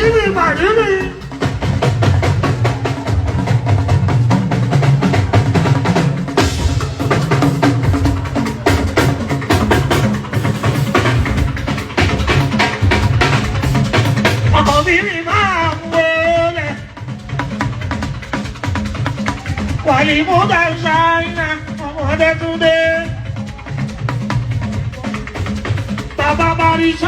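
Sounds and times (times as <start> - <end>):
driving percussion groove: 0.0 - 27.0.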